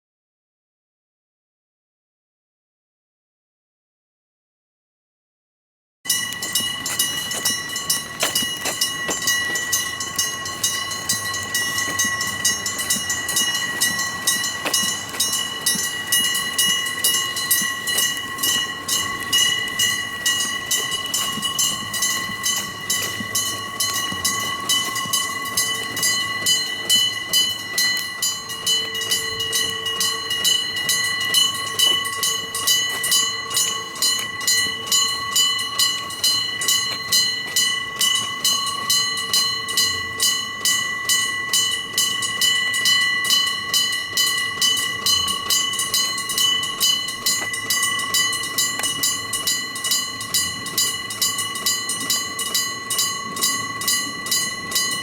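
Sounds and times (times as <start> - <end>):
level crossing bells clanging: 6.1 - 55.0.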